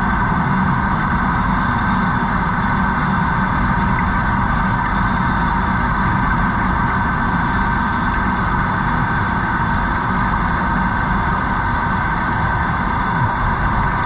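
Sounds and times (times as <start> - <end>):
underwater mechanical drone: 0.0 - 14.0.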